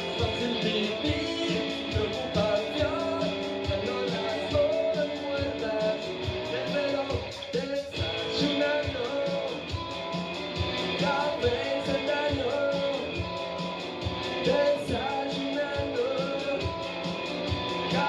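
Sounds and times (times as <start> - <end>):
electric guitar with pitch bends: 0.0 - 18.0
steady drum beat: 0.0 - 18.0.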